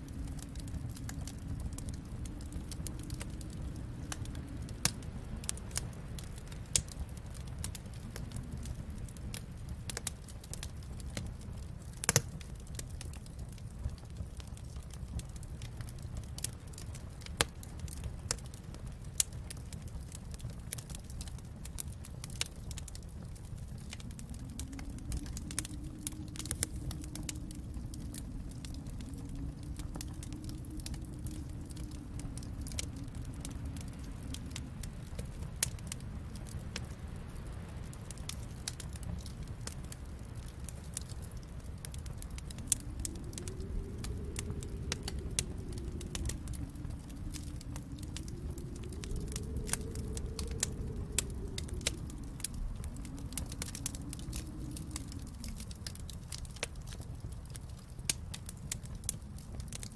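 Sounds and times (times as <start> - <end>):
low rumble: 0.0 - 17.2, 20.7 - 59.9
wood fire crackling and popping: 0.0 - 59.9.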